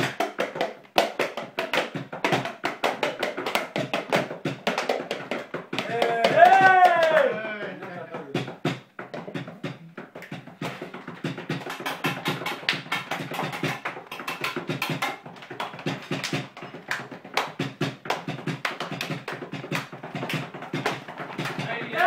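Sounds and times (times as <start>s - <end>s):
fast rhythmic tapping: 0.0s - 22.0s.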